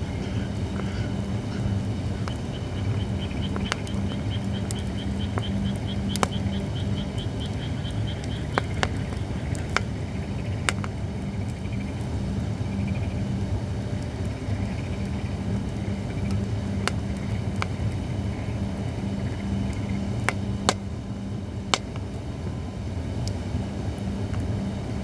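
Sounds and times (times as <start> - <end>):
fire crackling pops: 0.0 - 24.8
campfire burning: 0.0 - 25.0.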